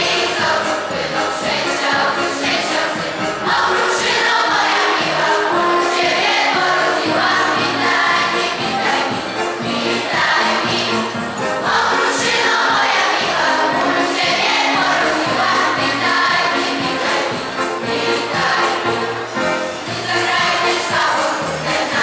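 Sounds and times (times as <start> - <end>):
choir singing a carol: 0.0 - 22.0
instrumental accompaniment: 0.0 - 22.0.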